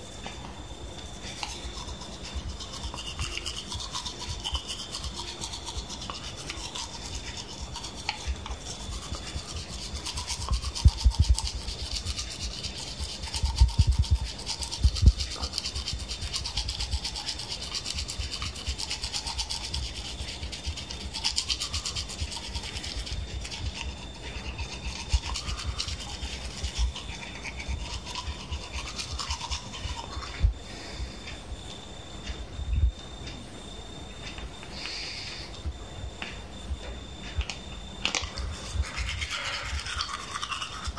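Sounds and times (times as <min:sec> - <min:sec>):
toothbrush scrubbing teeth: 0:00.0 - 0:30.6, 0:38.1 - 0:40.9.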